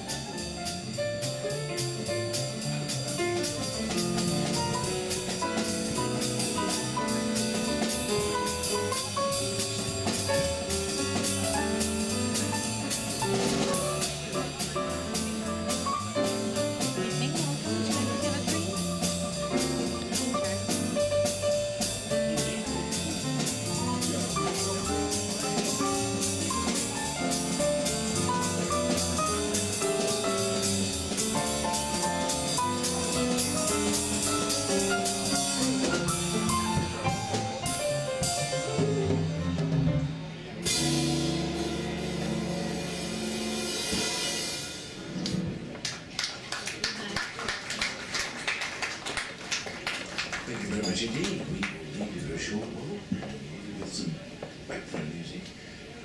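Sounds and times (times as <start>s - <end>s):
quick cymbal beat: 0.0s - 45.4s
live jazz band playing: 0.0s - 47.1s.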